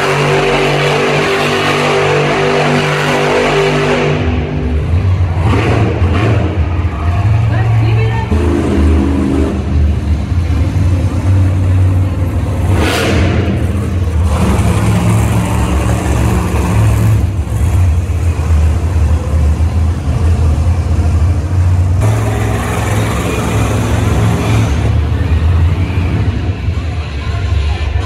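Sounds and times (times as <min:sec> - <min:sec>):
truck engines revving hard: 0:00.0 - 0:28.0.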